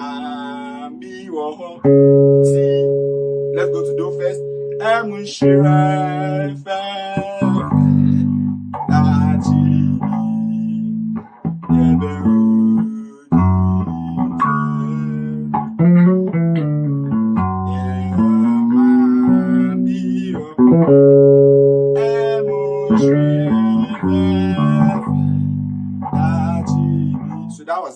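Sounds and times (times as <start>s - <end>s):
bass guitar plucked notes: 0.0s - 1.2s, 1.8s - 27.6s.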